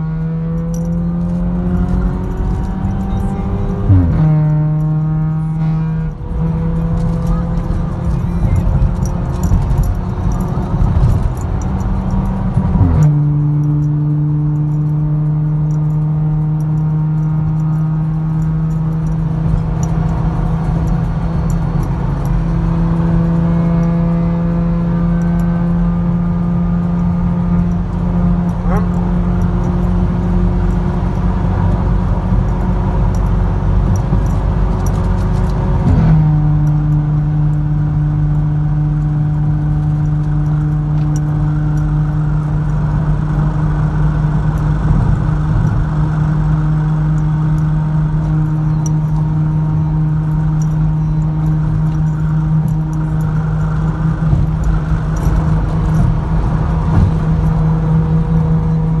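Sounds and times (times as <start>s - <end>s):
car engine drone: 0.0s - 59.0s
road noise: 0.0s - 59.0s.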